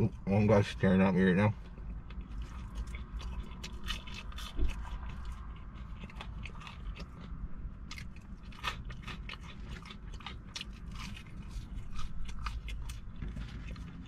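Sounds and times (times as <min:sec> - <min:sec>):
low steady rumble: 0:00.0 - 0:14.0
person chewing crunchy food: 0:01.7 - 0:14.0.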